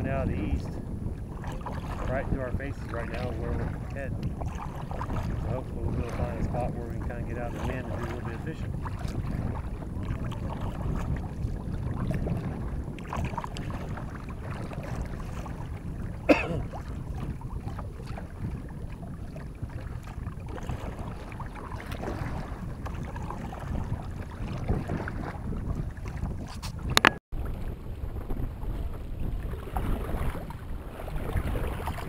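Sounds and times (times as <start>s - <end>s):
paddle strokes splashing: 0.0s - 32.0s
wind noise on microphone: 0.0s - 32.0s.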